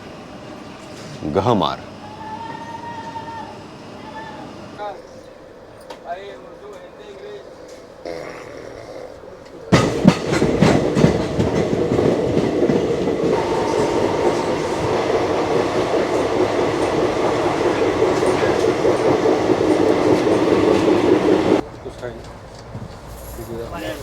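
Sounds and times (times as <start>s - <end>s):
train wheels rumbling on rail: 0.0s - 5.0s, 9.7s - 24.0s.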